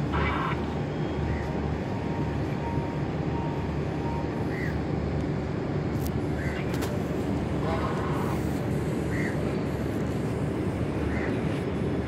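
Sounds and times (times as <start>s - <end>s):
ship engines rumbling: 0.0s - 12.0s.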